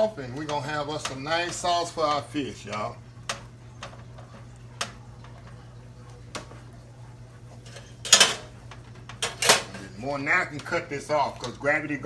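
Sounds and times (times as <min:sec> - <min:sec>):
skillet scraping on stove: 0:00.0 - 0:10.8
steady low hum: 0:00.0 - 0:12.0.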